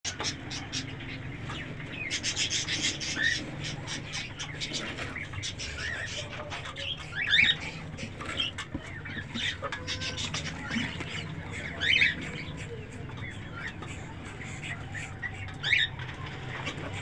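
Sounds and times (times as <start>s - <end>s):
cockatiel chirping: 1.5s - 16.9s.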